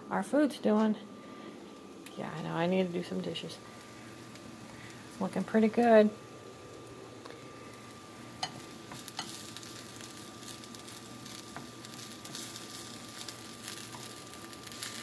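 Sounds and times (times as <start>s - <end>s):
bacon sizzling in a skillet: 2.3s - 15.0s.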